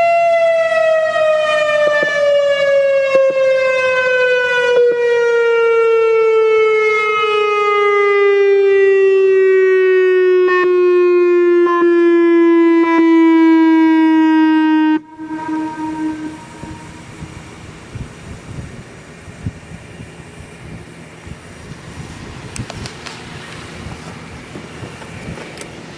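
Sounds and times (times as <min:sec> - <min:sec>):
warning siren tone: 0:00.0 - 0:22.6.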